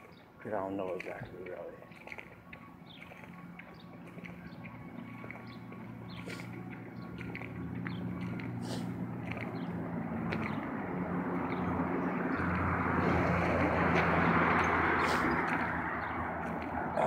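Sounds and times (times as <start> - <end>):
low engine hum: 0.0 - 17.0
vehicle passing by: 0.9 - 17.0.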